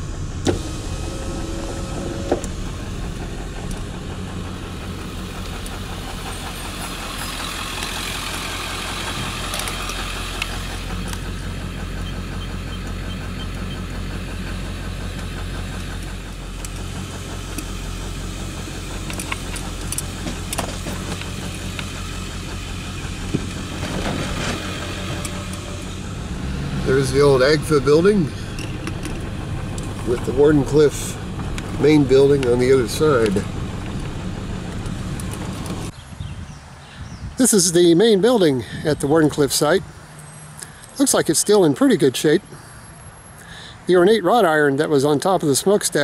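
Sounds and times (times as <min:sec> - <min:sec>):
diesel engine drone: 0:00.0 - 0:36.0, 0:37.4 - 0:46.0.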